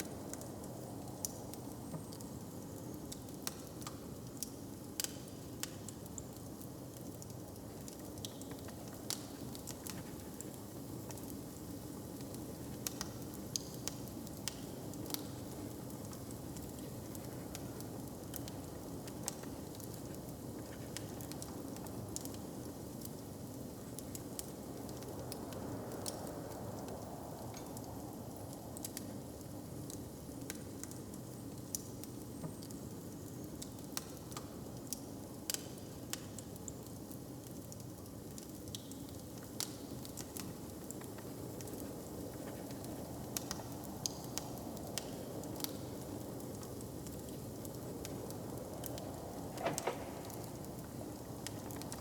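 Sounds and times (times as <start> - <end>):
wood fire crackling and popping: 0.1 - 52.0.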